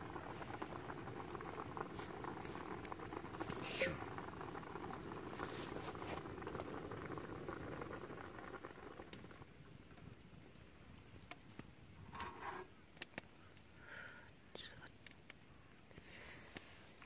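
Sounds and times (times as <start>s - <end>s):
water boiling: 0.0s - 17.0s.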